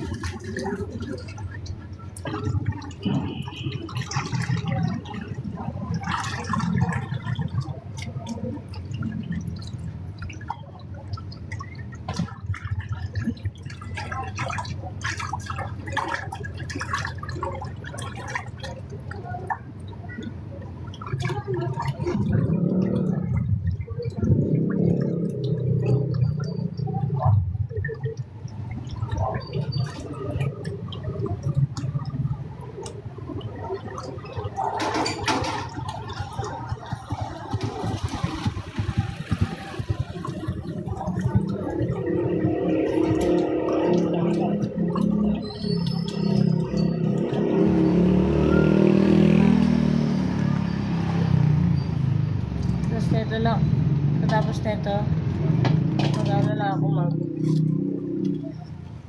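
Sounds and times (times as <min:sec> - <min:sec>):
water splashing and gurgling: 0:00.0 - 0:59.0.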